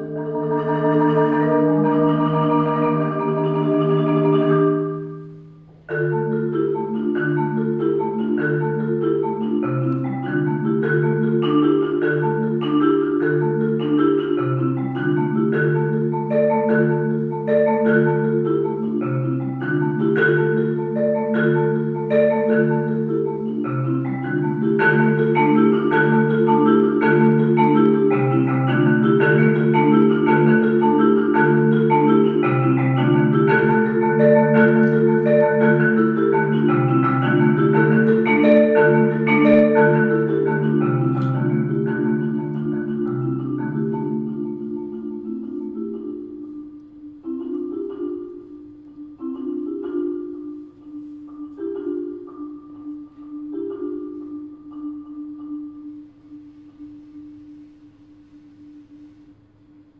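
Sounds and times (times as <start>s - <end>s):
higher repeating marimba line: 0.0s - 59.2s
marimba chords: 0.0s - 59.9s.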